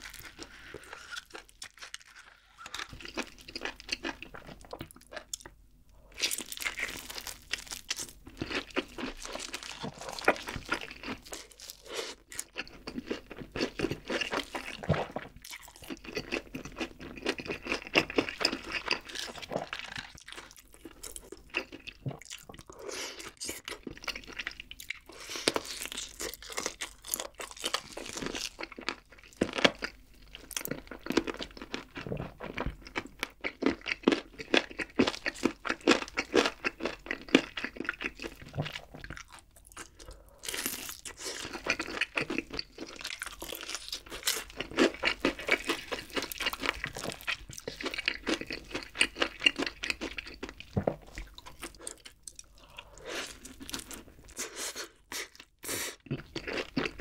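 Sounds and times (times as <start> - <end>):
crunchy chewing of fried chicken: 0.0 - 57.0.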